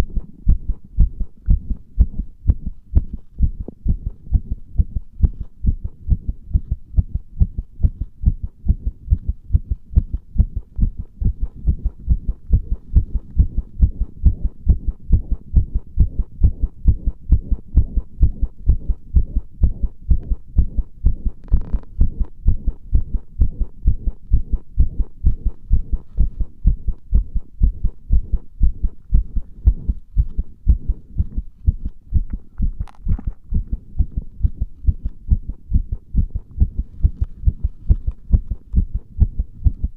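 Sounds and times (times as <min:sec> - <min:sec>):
heartbeat thuds: 0:00.0 - 0:39.9.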